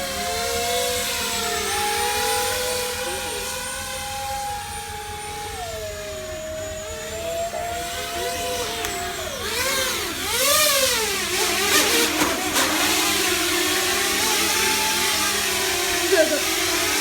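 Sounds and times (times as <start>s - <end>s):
electric propeller motors whining: 0.0s - 17.0s.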